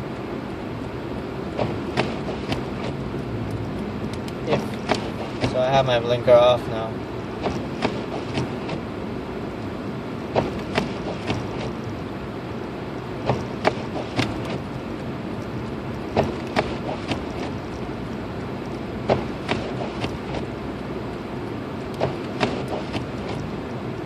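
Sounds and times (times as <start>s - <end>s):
road and tyre noise: 0.0s - 24.0s.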